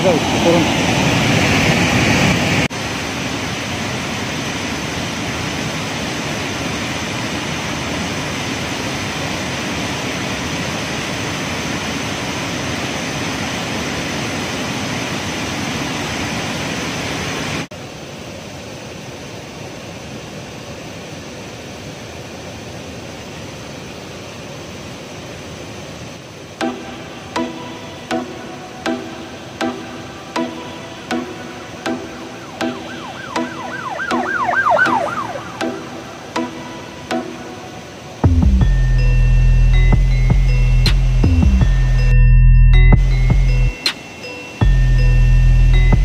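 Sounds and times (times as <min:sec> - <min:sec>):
waterfall rushing: 0:00.0 - 0:42.1, 0:43.0 - 0:45.2.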